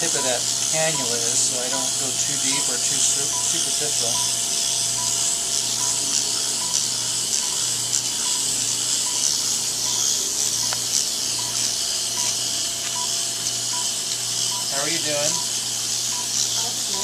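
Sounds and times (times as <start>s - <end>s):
motor humming: 0.0s - 17.0s
suction hiss: 0.0s - 17.0s.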